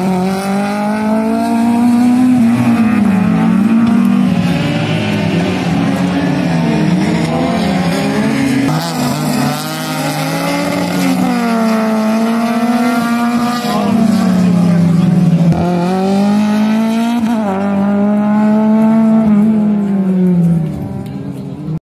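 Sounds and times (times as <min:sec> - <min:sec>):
race car engines revving: 0:00.0 - 0:21.8.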